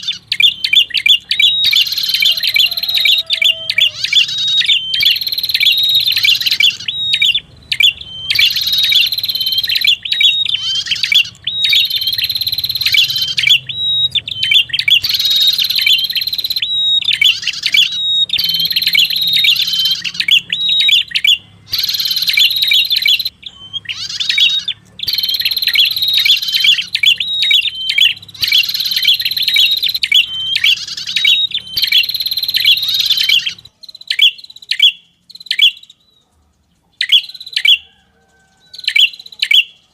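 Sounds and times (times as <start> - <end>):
high chattering birdsong: 0.0 - 39.9.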